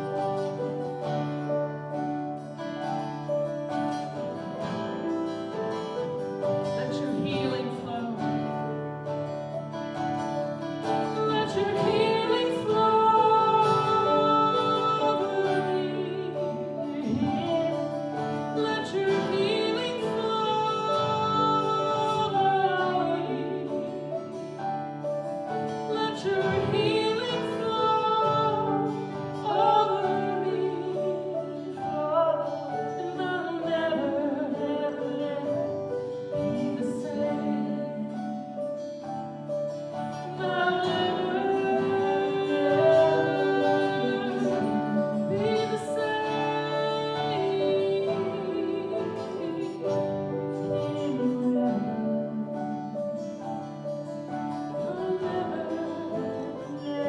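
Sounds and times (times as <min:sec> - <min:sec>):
woman singing: 0:00.0 - 0:01.5, 0:03.9 - 0:57.0
guitar: 0:00.0 - 0:57.0.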